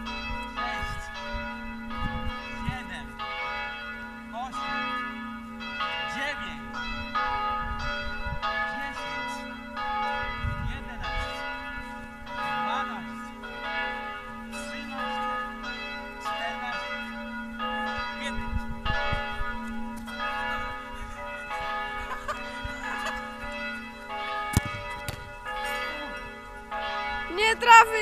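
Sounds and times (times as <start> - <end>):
bell-like chords: 0.0 - 28.0.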